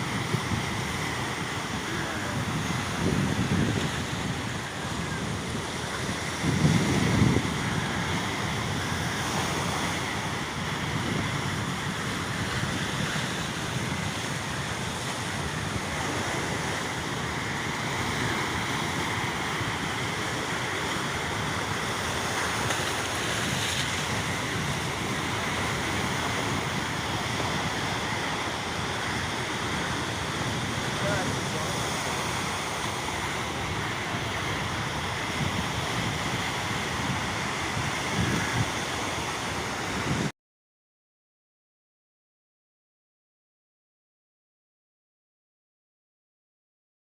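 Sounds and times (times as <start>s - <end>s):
sea wash: 0.0s - 40.3s
wind buffeting microphone: 0.0s - 40.3s.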